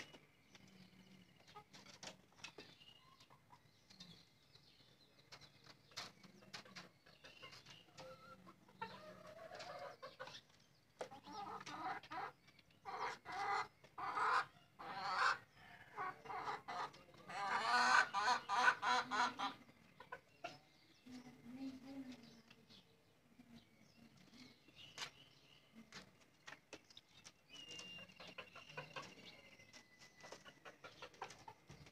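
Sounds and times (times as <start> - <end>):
chickens clucking: 0.0 - 31.9.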